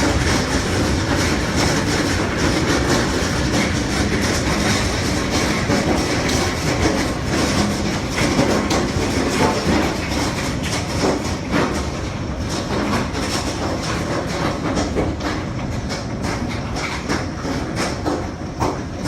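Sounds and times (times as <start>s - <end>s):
hail clattering on hard surfaces: 0.0s - 18.9s.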